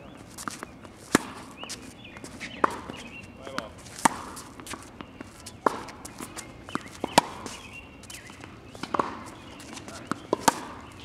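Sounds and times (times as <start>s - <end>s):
tennis ball bouncing on court: 0.4s - 11.0s
tennis ball struck by racket: 0.4s - 11.0s.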